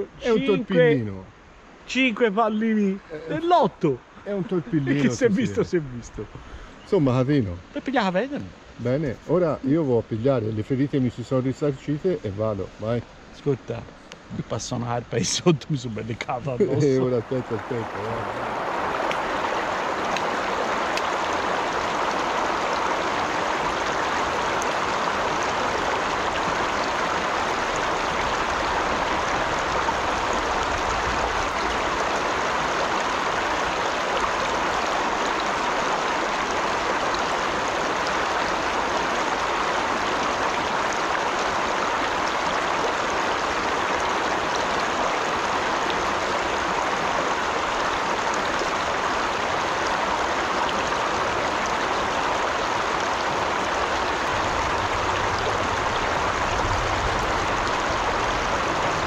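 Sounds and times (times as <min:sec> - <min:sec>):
river rushing over stones: 0:00.0 - 0:59.0.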